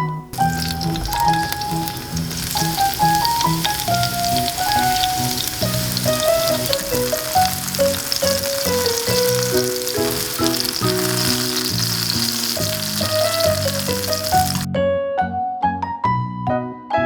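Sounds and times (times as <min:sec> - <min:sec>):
food sizzling in frying pan: 0:00.0 - 0:14.7.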